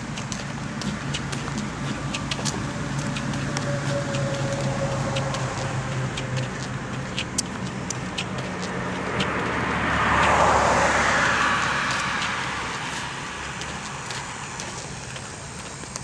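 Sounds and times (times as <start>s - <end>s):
car passing by: 0.0s - 15.8s
footstep clicks: 0.0s - 16.0s.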